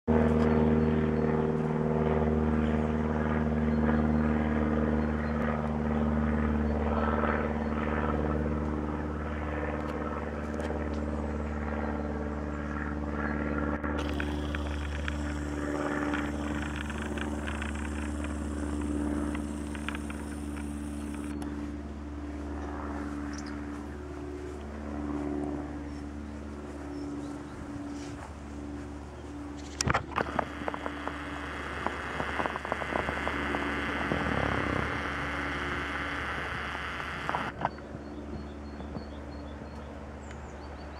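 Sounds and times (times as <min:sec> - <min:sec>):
light aircraft engine and propeller: 0:00.1 - 0:40.9.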